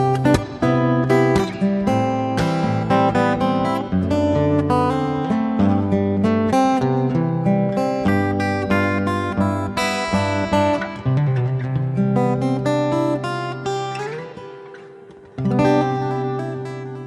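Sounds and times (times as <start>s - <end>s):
solo acoustic guitar: 0.0s - 17.0s.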